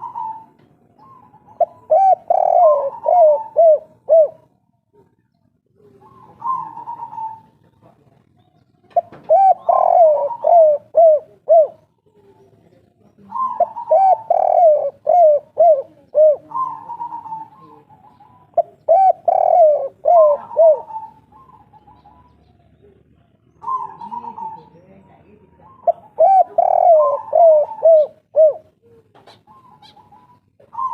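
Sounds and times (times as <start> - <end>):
dove cooing: 0.0 - 7.8, 8.4 - 30.9
faint steady bird call: 0.0 - 30.9.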